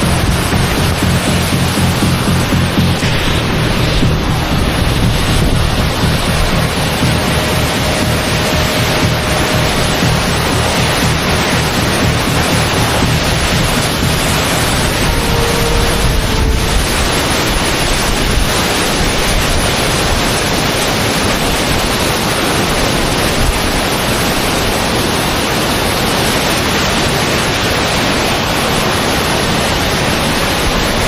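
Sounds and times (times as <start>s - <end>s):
wind buffeting microphone: 0.0s - 26.1s
waterfall rushing: 0.0s - 31.0s.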